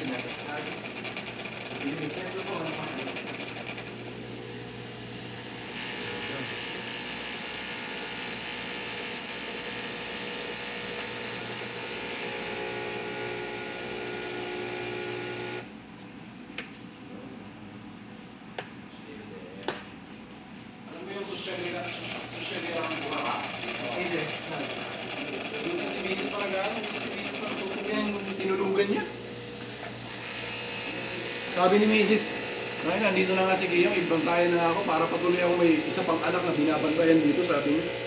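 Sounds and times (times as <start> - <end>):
espresso machine pump running: 0.0 - 15.8, 21.3 - 38.0.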